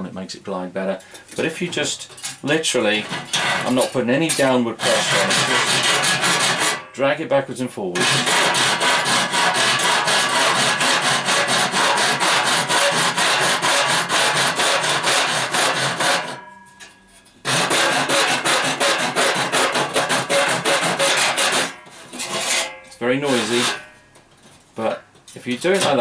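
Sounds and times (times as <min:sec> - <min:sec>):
hacksaw cutting metal: 0:02.1 - 0:06.9, 0:08.0 - 0:24.0, 0:25.6 - 0:26.0.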